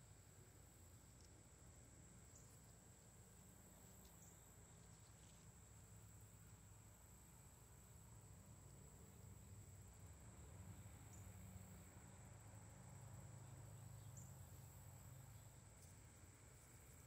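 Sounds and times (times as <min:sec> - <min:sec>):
high-pitched insect trill: 0:00.1 - 0:17.0.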